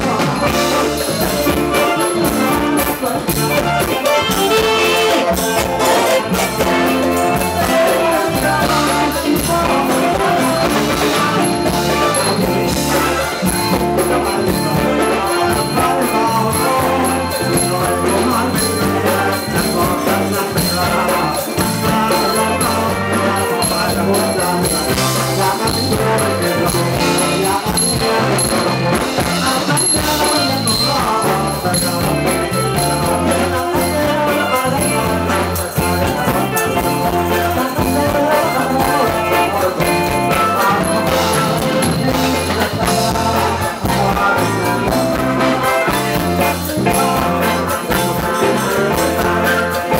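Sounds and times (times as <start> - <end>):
band playing dance music: 0.0 - 49.9.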